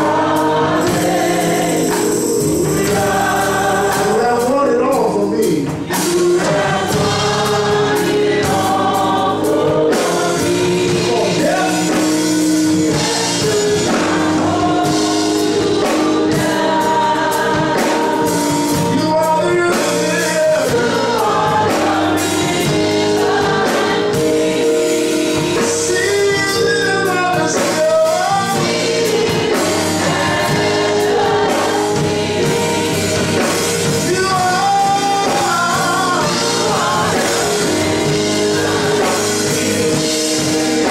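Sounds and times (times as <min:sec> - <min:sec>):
church band playing: 0:00.0 - 0:40.9
gospel choir singing: 0:00.0 - 0:40.9.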